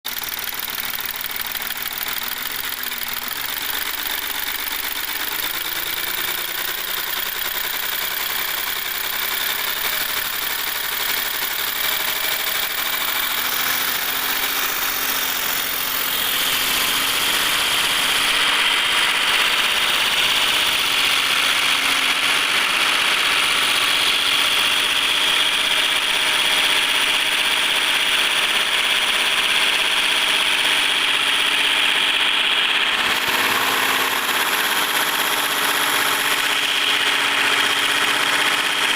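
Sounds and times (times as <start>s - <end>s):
diesel engine running: 0.1s - 38.9s.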